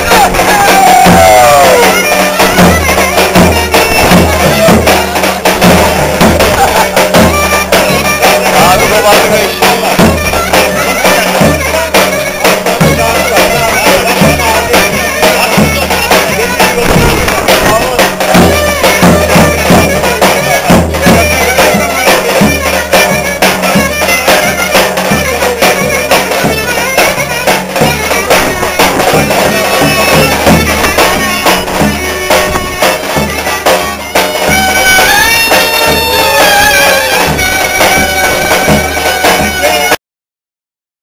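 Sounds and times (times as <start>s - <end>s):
bass drum beating: 0.0s - 39.8s
reedy wind instrument: 0.0s - 40.0s
violin melody: 0.0s - 40.0s.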